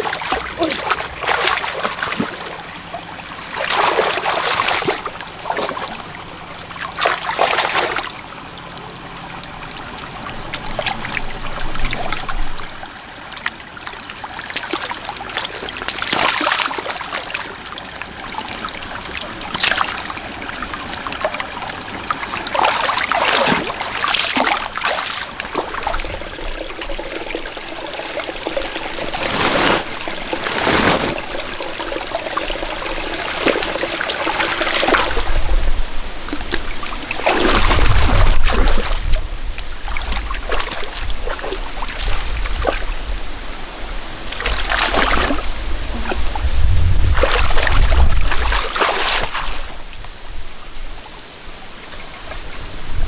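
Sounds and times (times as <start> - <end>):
water rushes: 0.0 - 53.0
water trickling and splashing: 0.0 - 53.0.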